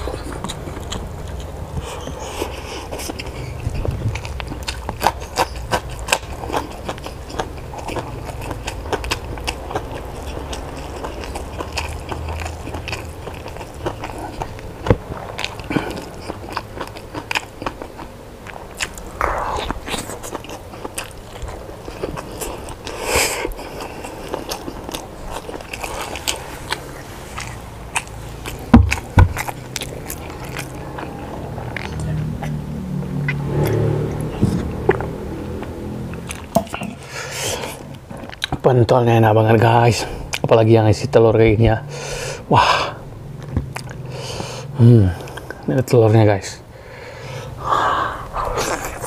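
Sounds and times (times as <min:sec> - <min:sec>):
person chewing food: 0:00.0 - 0:40.6, 0:41.9 - 0:45.7, 0:46.9 - 0:49.0.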